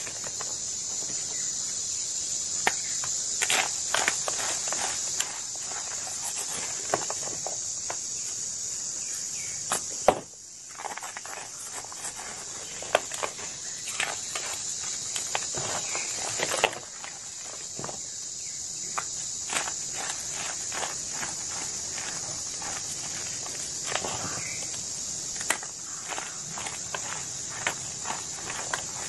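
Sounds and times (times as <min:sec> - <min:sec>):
steady high hiss: 0:00.0 - 0:29.0
hands crushing chalk: 0:02.6 - 0:08.0, 0:09.7 - 0:18.0, 0:18.9 - 0:29.0.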